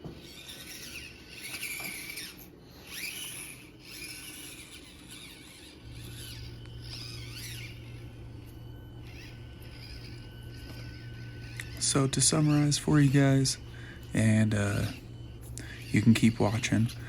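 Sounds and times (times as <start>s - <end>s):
small electric motor whining: 0.0s - 17.0s
steady low hum: 0.0s - 17.0s.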